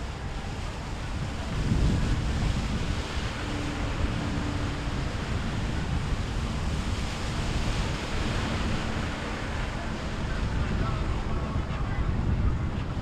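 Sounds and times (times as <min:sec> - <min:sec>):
faint boat engine drone: 0:00.0 - 0:13.0
waves and surf: 0:00.0 - 0:13.0
wind buffeting microphone: 0:00.0 - 0:13.0.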